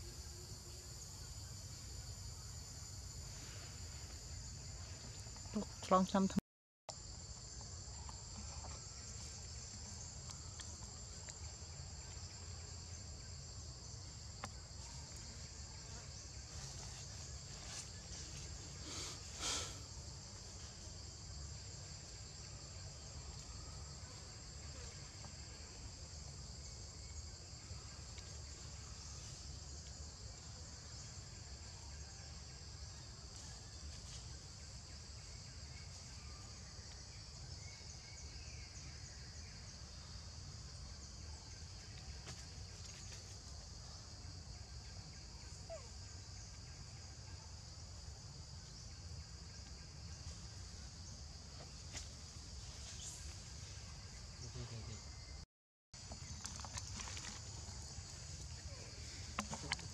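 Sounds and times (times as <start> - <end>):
high-pitched insect chorus: 0.0 - 55.4, 56.0 - 59.9.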